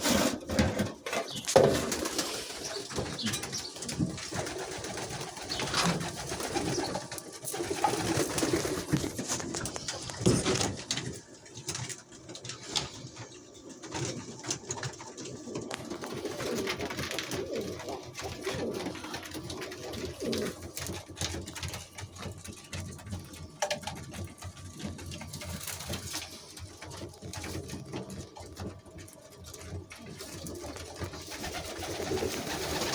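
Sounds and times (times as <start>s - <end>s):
birds cooing: 0.0s - 32.9s.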